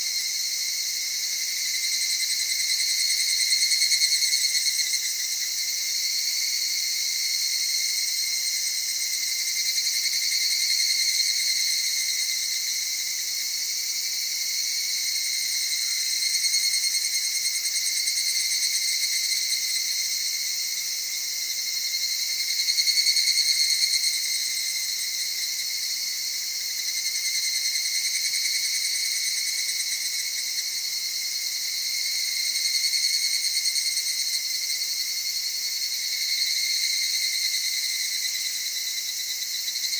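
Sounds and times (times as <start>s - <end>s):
cicadas trilling: 0.0s - 39.9s.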